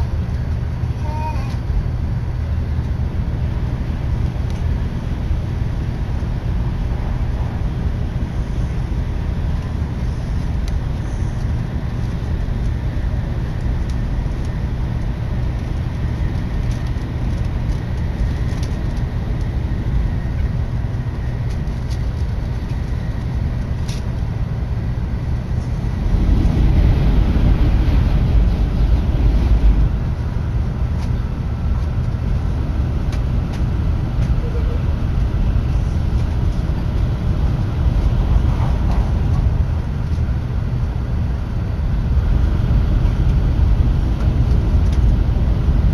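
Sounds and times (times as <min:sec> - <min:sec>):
train cabin rumble: 0:00.0 - 0:45.9.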